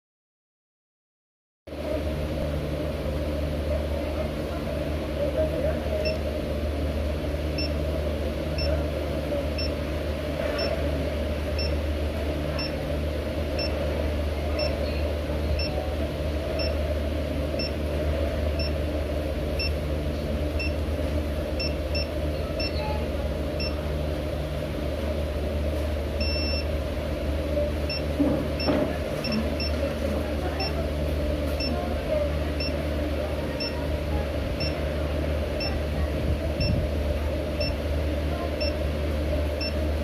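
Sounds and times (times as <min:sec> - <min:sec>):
steady low hum: 0:01.7 - 0:40.0.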